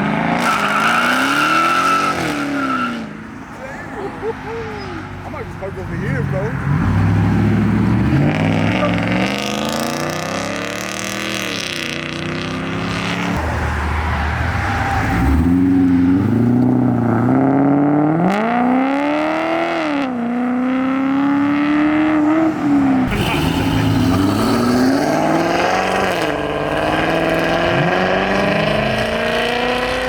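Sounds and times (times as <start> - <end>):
car engine revving: 5.2 - 30.0.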